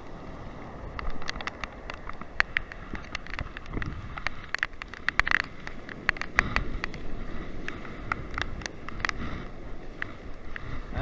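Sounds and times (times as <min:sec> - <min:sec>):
wind rumble: 0:00.0 - 0:11.0.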